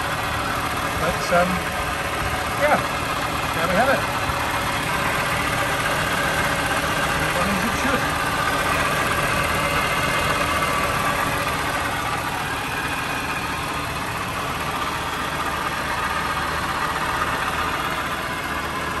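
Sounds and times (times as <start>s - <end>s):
car engine fast idling: 0.0s - 19.0s.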